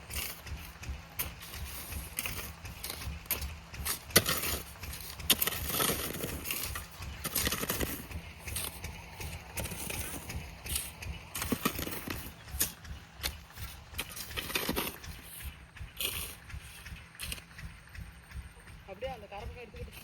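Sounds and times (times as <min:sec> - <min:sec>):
spade scraping soil: 0:00.0 - 0:17.5
diesel pump engine chugging: 0:00.0 - 0:20.0.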